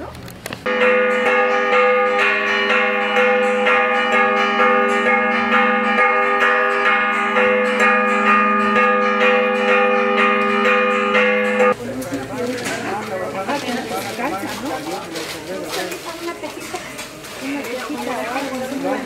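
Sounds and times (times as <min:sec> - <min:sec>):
church bells ringing: 0:00.6 - 0:16.6.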